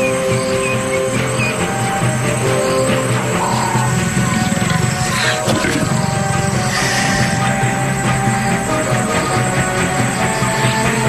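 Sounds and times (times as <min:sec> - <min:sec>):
background music score: 0:00.0 - 0:11.0.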